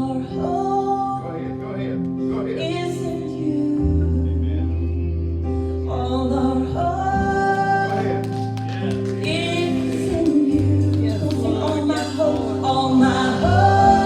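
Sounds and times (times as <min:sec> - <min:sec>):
woman singing: 0:00.0 - 0:01.4, 0:02.4 - 0:14.0
worship band with keyboard and bass: 0:00.0 - 0:14.0.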